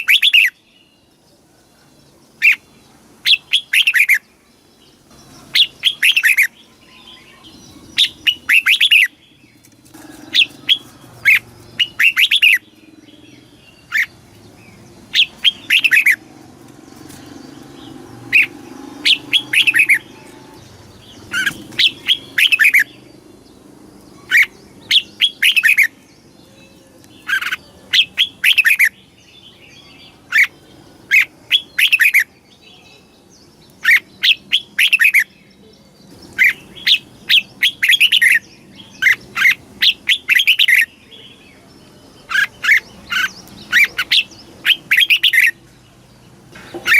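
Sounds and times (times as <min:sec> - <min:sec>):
bulbul singing: 0:00.0 - 0:46.9.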